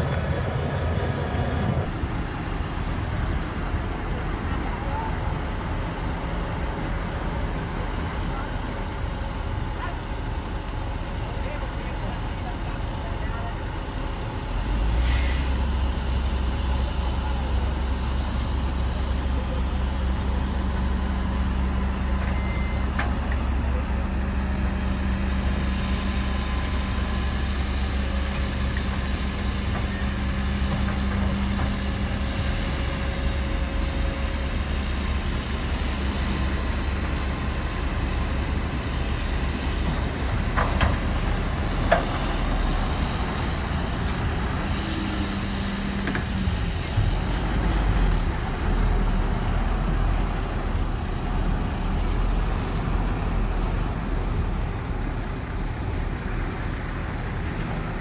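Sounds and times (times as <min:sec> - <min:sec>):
heavy diesel machines rumbling: 0:00.0 - 0:58.0.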